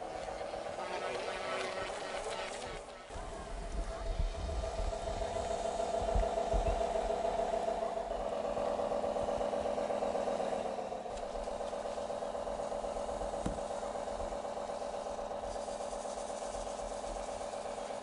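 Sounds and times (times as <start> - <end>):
model boat motor whine: 0.0 - 18.0.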